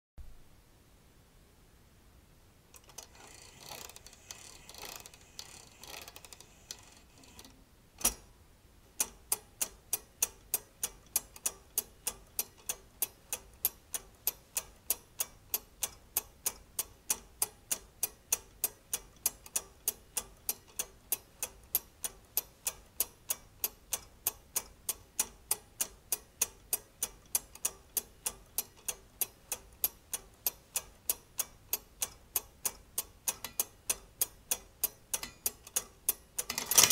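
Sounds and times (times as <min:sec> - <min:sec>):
clockwork ticking: 0:02.8 - 0:08.2, 0:09.0 - 0:36.9.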